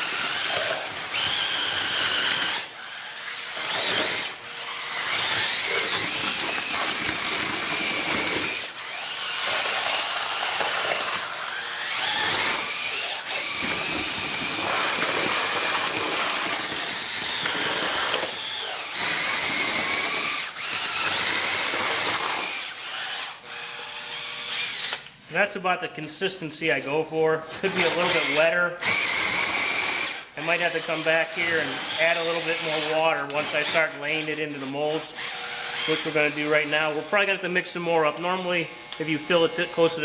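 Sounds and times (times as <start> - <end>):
drill mixing wet concrete: 0.0 - 40.0.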